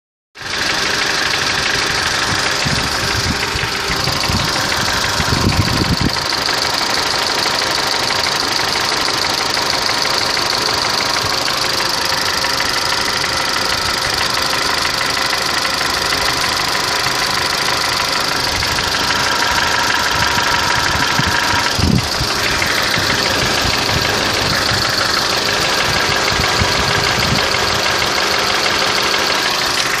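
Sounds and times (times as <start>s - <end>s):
knocking car engine running: 0.4s - 30.0s.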